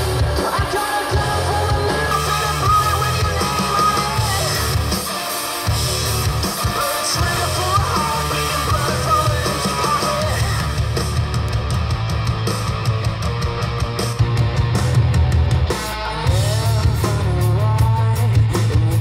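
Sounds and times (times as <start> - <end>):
rock music through loudspeakers: 0.0 - 19.0.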